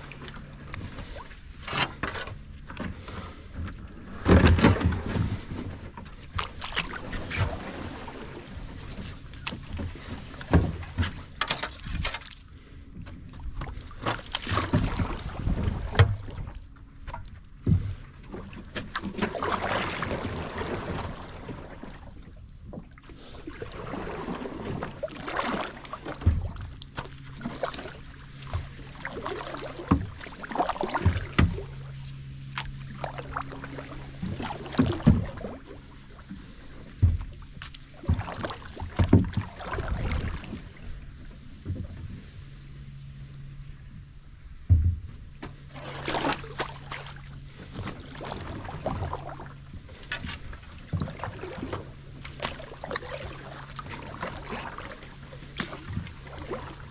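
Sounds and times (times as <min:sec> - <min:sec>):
low hum: 0:00.0 - 0:56.9
paddle strokes swishing through water: 0:00.0 - 0:56.9
paddle knocking against hull: 0:01.7 - 0:08.1, 0:08.8 - 0:12.4, 0:13.0 - 0:22.0, 0:23.8 - 0:42.1, 0:44.5 - 0:56.9.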